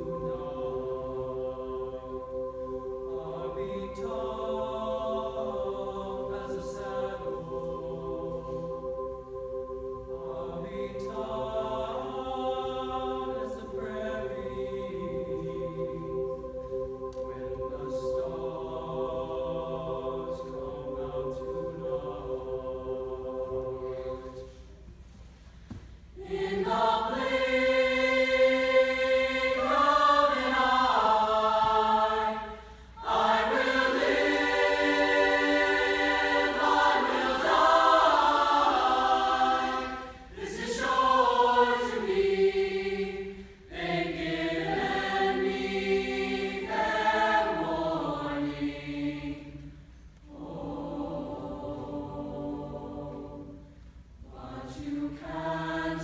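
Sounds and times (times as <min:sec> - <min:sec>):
choir singing: 0:00.0 - 0:24.9, 0:26.2 - 0:56.0.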